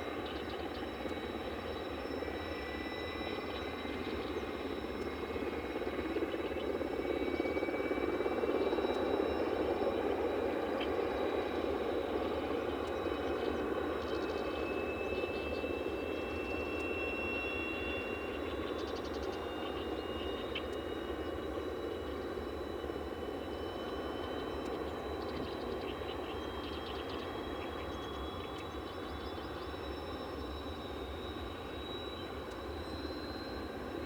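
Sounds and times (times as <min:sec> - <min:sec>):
mechanical hum with high whine: 0:00.0 - 0:34.0.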